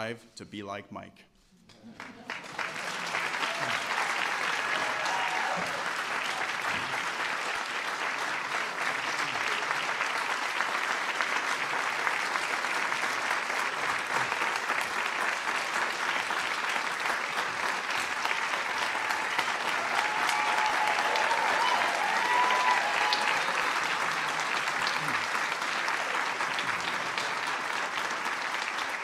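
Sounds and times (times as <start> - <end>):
audience applauding: 1.8 - 29.0.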